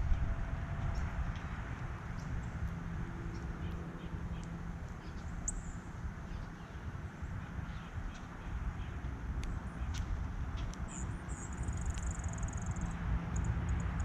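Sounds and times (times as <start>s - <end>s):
low outdoor rumble: 0.0s - 14.0s
songbirds chirping: 0.1s - 14.0s.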